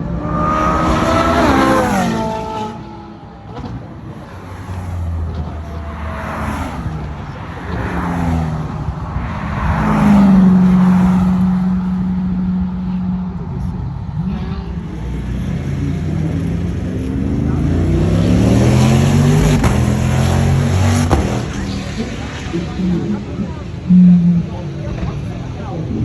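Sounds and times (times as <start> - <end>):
sports cars driving past: 0.0 - 26.0.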